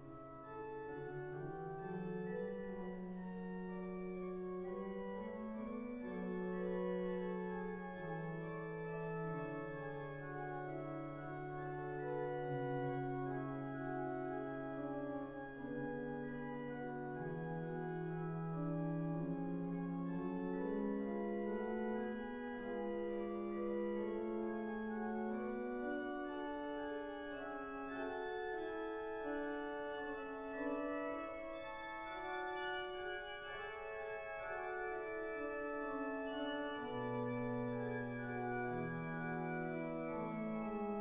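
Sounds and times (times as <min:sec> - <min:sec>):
pipe organ chords: 0:00.0 - 0:41.0
deep organ pedal note: 0:00.6 - 0:41.0.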